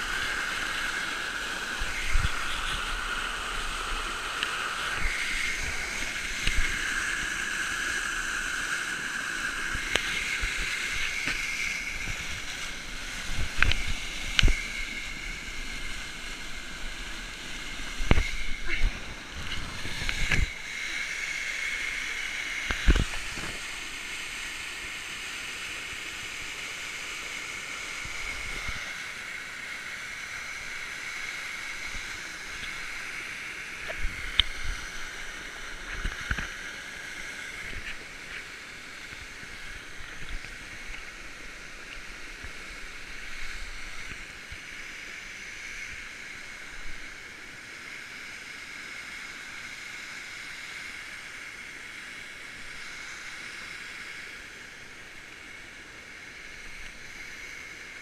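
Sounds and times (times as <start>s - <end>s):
waterfall and creek rushing: 0.0s - 58.0s.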